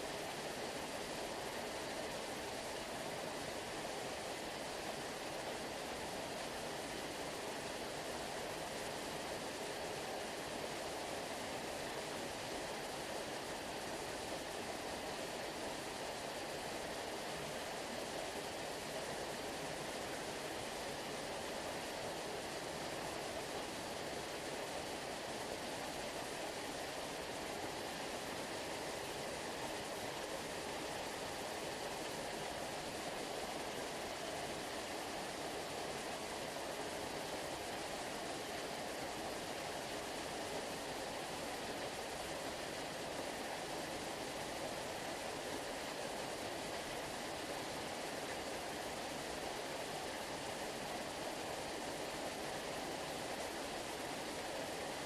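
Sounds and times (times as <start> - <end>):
water rushing steadily: 0.0 - 55.0.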